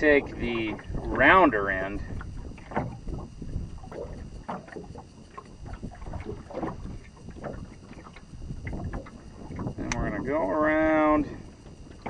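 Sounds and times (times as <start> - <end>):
waves slapping against boat hull: 0.0 - 12.0
wind rumble on microphone: 0.0 - 12.0.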